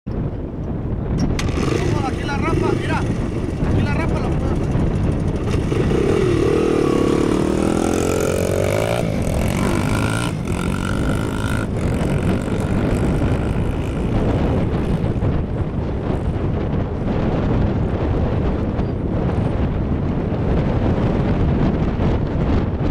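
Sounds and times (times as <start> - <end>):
bike engine revving: 1.2 - 19.7
motocross bike engines running: 1.2 - 22.9.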